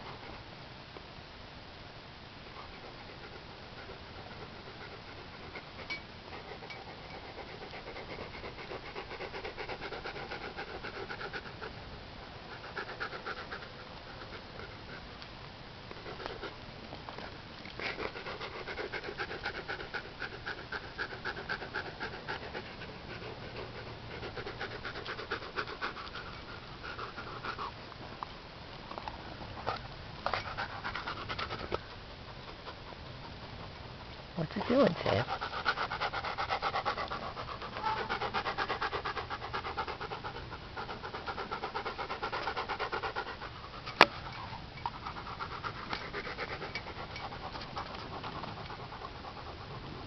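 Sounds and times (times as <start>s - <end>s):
dog panting quickly: 2.6s - 15.1s, 16.0s - 16.6s, 17.2s - 27.8s, 29.6s - 50.0s.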